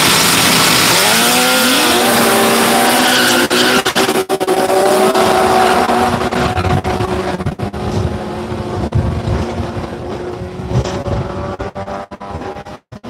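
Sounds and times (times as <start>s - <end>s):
drag car engine accelerating: 0.0s - 13.0s.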